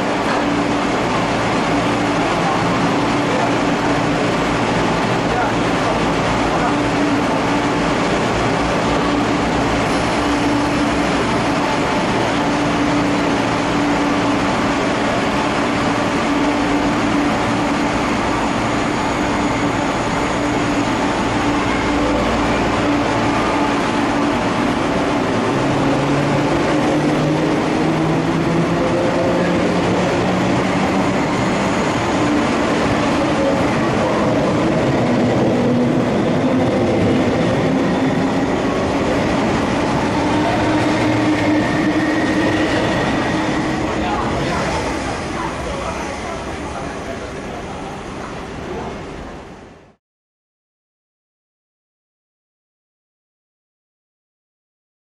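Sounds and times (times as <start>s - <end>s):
train wheel and rolling noise: 0.0s - 50.0s.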